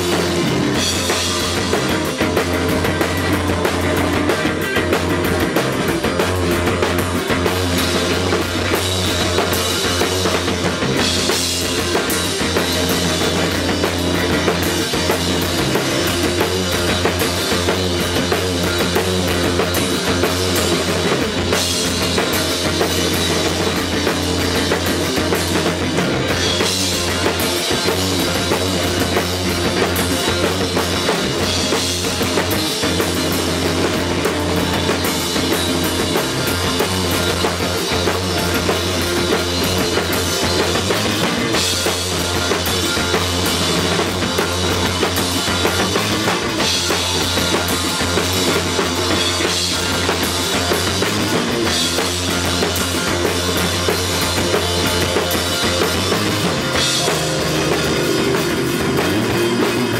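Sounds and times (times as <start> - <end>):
drum kit playing rock: 0.0 - 59.9
electric guitar: 0.0 - 59.9.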